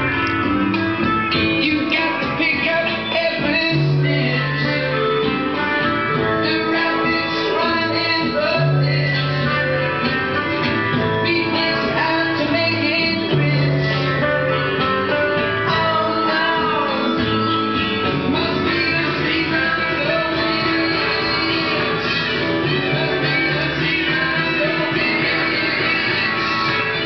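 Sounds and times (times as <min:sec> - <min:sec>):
person singing: 0:01.2 - 0:27.0.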